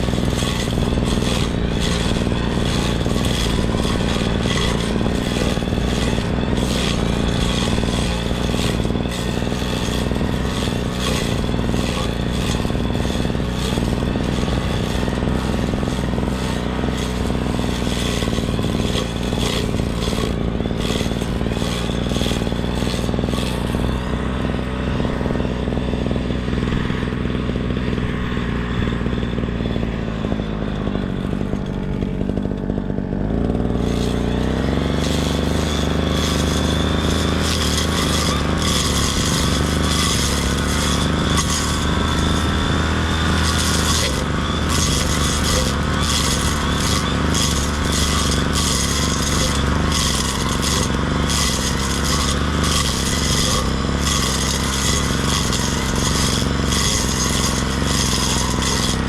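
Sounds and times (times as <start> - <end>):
brush cutter engine revving: 0.0 - 59.0
rasping flutter of cutting grass: 0.0 - 59.0.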